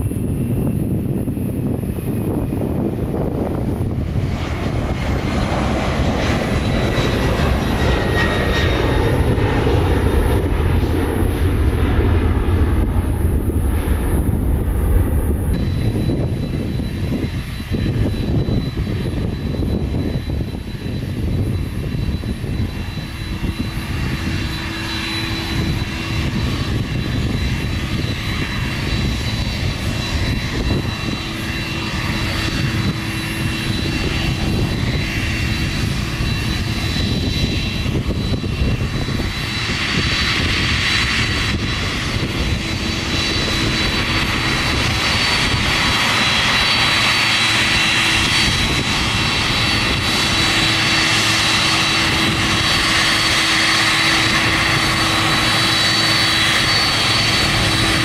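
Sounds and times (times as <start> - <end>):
airplane engines running: 0.0 - 58.0.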